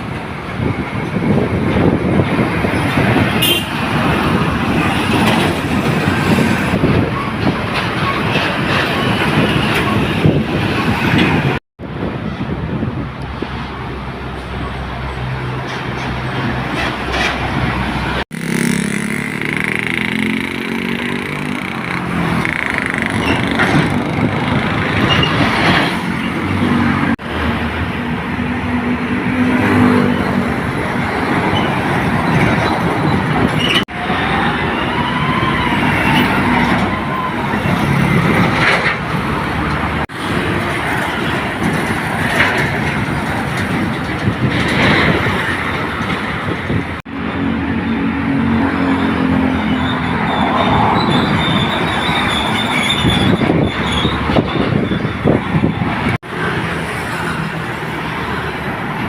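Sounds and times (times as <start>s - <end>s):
steady traffic noise: 0.0s - 59.0s
trucks driving past: 0.0s - 59.0s.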